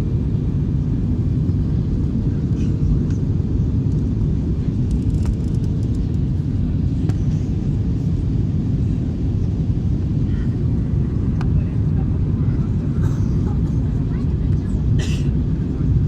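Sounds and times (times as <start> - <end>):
airliner engines rumbling: 0.0 - 16.0.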